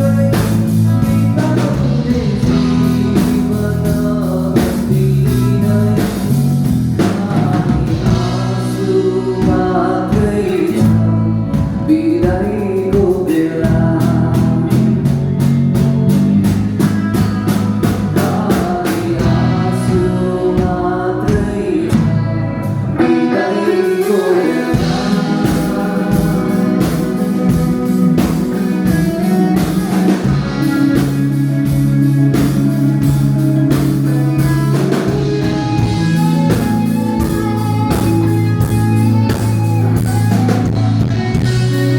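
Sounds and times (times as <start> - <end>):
guitar: 0.0 - 41.9
person singing: 0.0 - 41.9
steady drum beat: 0.0 - 41.9.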